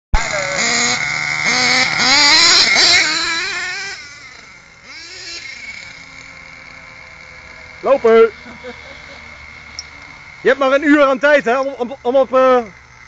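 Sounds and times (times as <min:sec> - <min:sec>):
model truck engine revving: 0:00.2 - 0:13.0.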